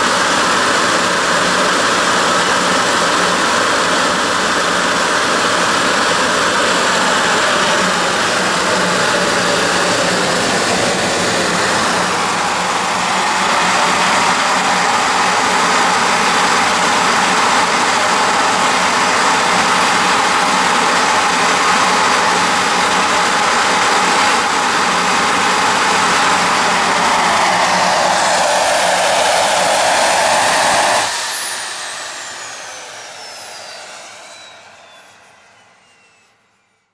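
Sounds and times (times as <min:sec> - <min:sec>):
jet engine roaring: 0:00.0 - 0:36.6
turbine whine: 0:00.0 - 0:36.9.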